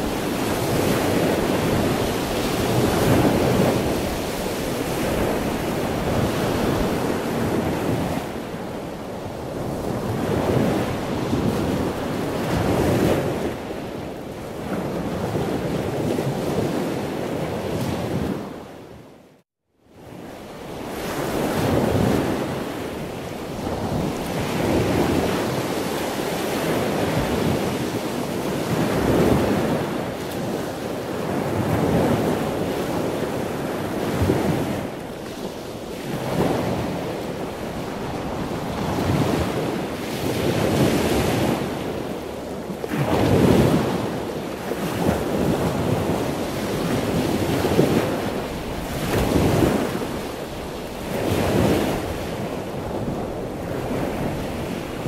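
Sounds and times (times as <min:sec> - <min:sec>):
wind buffeting microphone: 0:00.0 - 0:19.0, 0:19.9 - 0:55.0.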